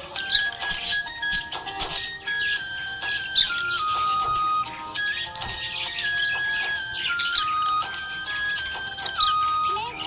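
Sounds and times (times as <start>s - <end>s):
nursery rhyme tune in held notes: 0.0s - 10.0s.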